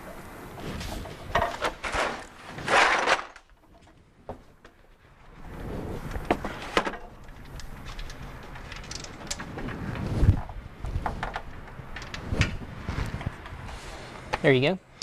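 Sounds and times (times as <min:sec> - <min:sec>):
hand tools scraping and rattling: 0:00.0 - 0:04.0, 0:06.1 - 0:14.4.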